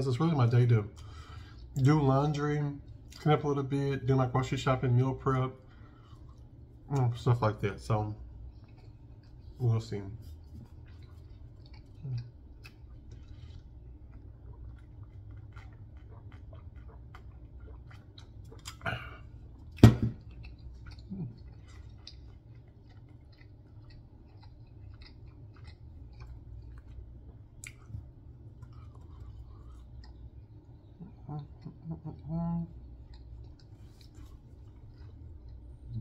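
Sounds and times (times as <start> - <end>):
person chewing food: 5.6 - 36.0.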